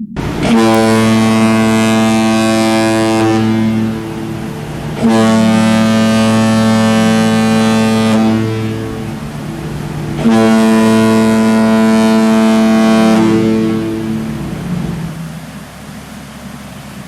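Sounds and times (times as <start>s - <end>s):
ship's horn blasts: 0.0s - 15.2s.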